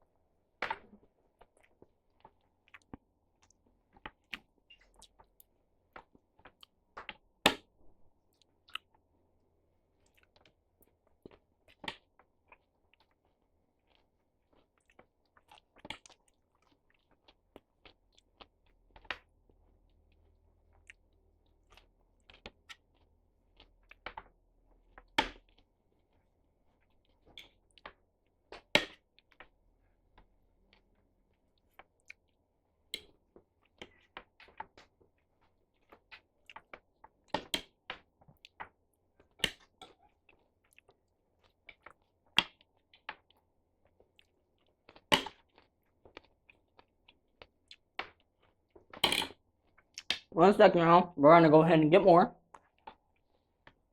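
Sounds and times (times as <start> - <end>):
person chewing food: 0.9 - 9.2, 9.8 - 50.3, 52.4 - 53.9.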